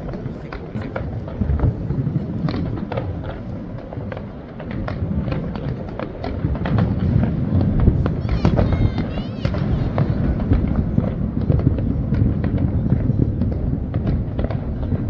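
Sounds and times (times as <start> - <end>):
fireworks popping and crackling: 0.0 - 15.0
fireworks rumble: 0.0 - 15.0.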